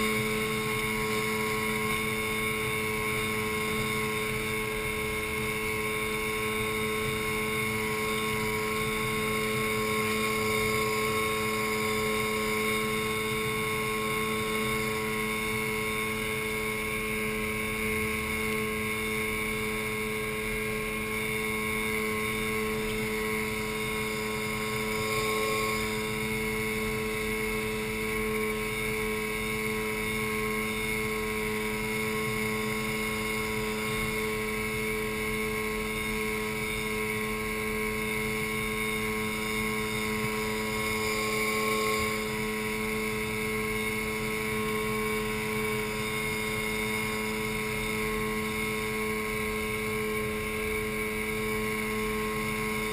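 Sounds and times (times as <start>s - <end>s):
outboard motor droning: 0.0s - 52.9s.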